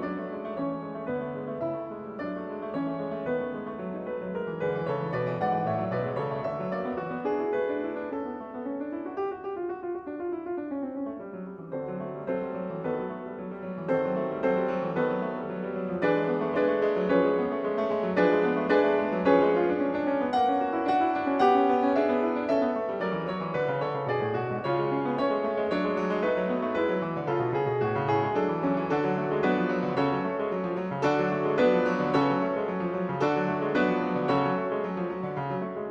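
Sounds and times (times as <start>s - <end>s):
piano music: 0.0s - 35.9s.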